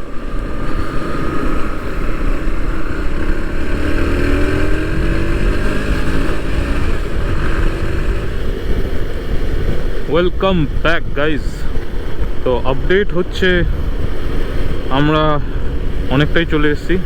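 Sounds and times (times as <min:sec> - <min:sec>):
motorcycle engine accelerating: 0:00.0 - 0:17.0
wind rumble on microphone: 0:00.0 - 0:17.0.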